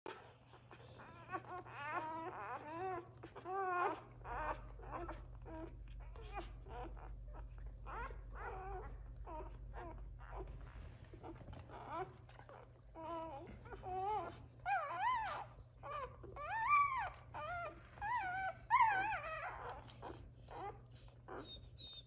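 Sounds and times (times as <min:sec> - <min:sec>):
low steady hum: 0:00.1 - 0:22.0
puppies squealing and whimpering: 0:00.1 - 0:22.0.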